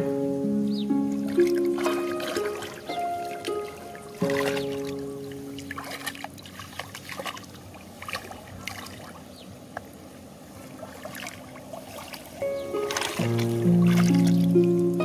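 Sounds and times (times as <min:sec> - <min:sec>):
trickling drips: 0:01.1 - 0:09.5, 0:10.6 - 0:15.0
small water splashes: 0:01.1 - 0:14.8.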